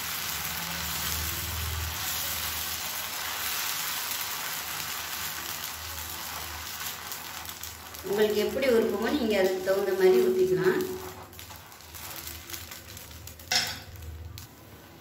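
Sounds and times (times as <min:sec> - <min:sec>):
batter sizzling on griddle: 0:00.0 - 0:15.0.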